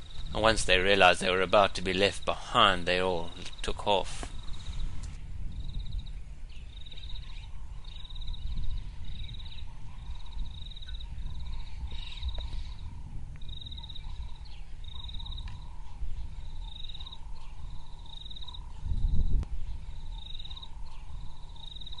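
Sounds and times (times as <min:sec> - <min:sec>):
insects chirping in trills: 0:00.0 - 0:22.0
steady low rumble: 0:00.0 - 0:22.0.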